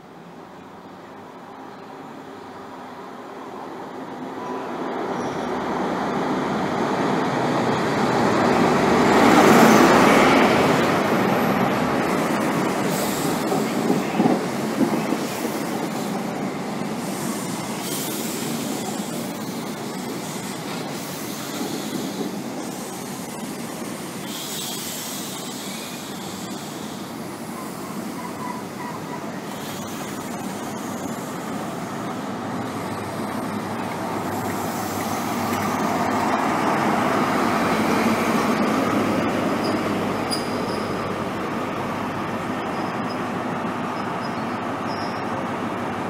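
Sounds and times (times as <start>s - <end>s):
train wheels on rails: 0.0s - 46.0s.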